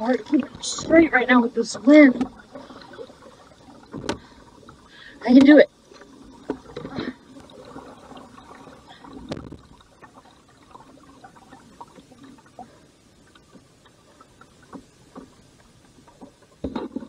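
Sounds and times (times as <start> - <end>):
water lapping and trickling: 0.0 - 17.0.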